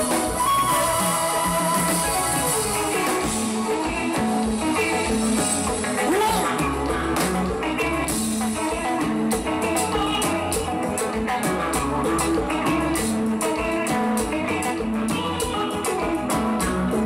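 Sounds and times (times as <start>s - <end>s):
band music: 0.0s - 17.0s
electric guitar playing: 0.0s - 17.0s.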